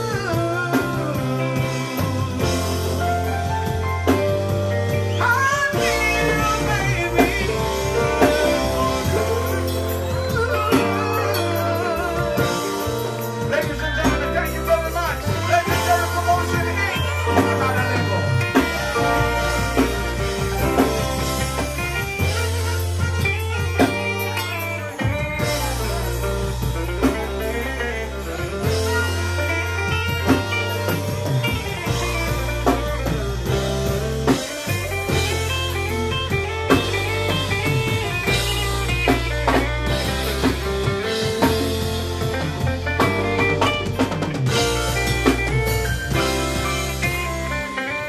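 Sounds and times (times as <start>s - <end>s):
electric bass low notes: 0.0s - 48.0s
live band playing: 0.0s - 48.0s.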